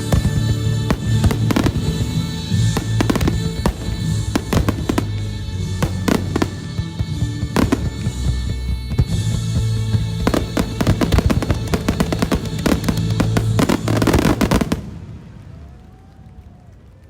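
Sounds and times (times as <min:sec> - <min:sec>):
loud show music: 0:00.0 - 0:14.9
fireworks bangs and crackles: 0:00.0 - 0:17.0.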